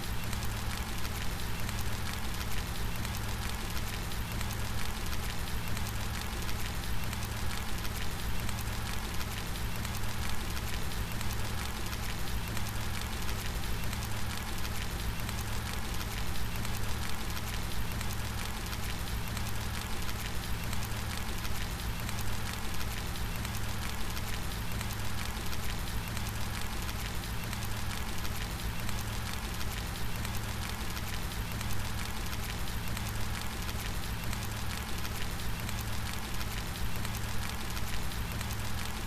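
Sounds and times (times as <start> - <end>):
rain drops ticking: 0.0 - 39.0.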